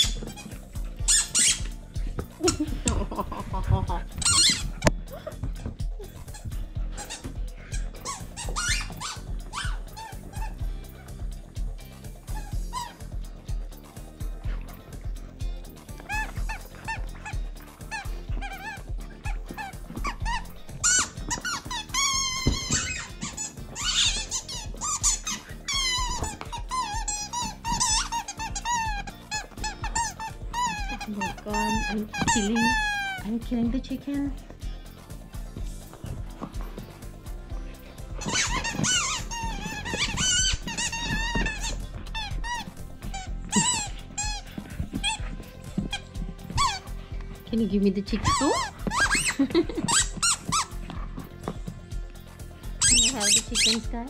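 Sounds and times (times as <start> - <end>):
rubber squeak toy squeaking: 0.0 - 13.3, 15.6 - 34.4, 35.6 - 51.8, 52.6 - 54.0.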